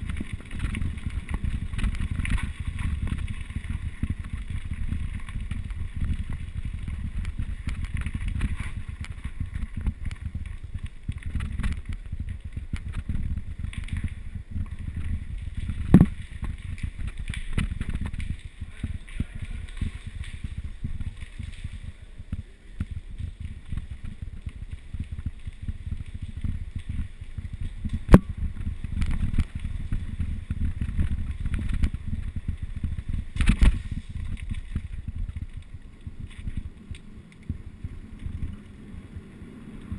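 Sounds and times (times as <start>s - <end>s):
bike rattling over ground: 0.0s - 39.9s
wind buffeting microphone: 0.0s - 39.9s.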